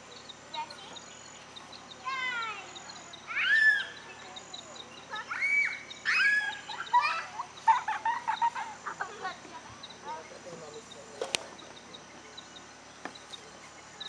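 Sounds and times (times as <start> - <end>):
birds calling: 0.0 - 14.0
faint high insect drone: 0.0 - 14.0.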